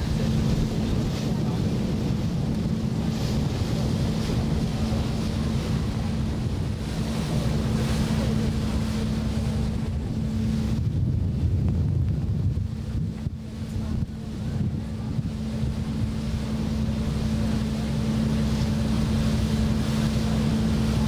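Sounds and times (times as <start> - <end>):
boat engine humming: 0.0 - 21.0
water rushing past hull: 0.0 - 21.0
wind buffeting microphone: 0.0 - 21.0.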